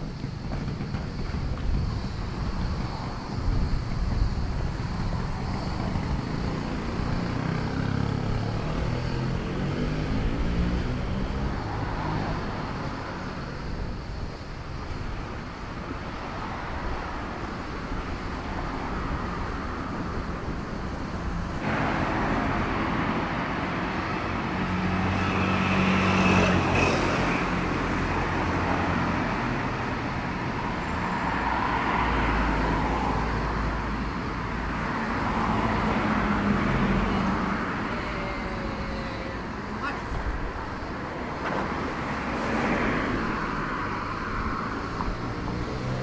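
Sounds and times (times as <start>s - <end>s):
cars passing on road: 0.0s - 46.0s.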